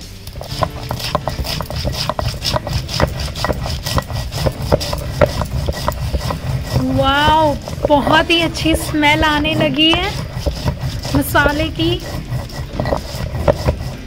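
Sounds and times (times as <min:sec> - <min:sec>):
grinding stone rumble: 0:00.0 - 0:14.0
stone knocking on stone: 0:00.3 - 0:14.0.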